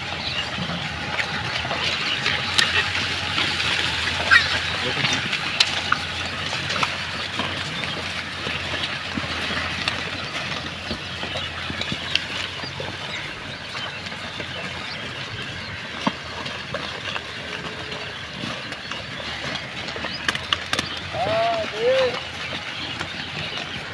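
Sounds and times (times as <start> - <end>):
crackle and rustle of litter: 0.0 - 23.9.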